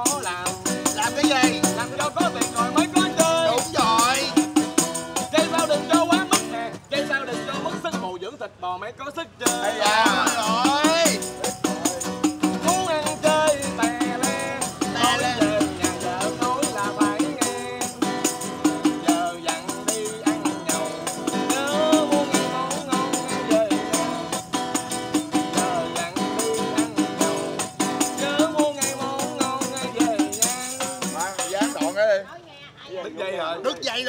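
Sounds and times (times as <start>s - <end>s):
man singing: 0.0s - 32.2s.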